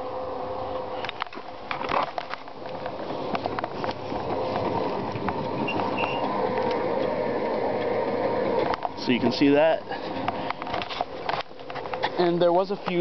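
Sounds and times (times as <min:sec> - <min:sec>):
whirring hum of rotator motors: 0:00.0 - 0:13.0.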